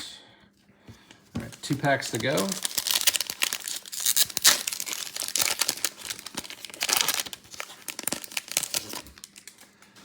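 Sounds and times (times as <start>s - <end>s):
wrapper tearing and crinkling: 1.5s - 9.7s.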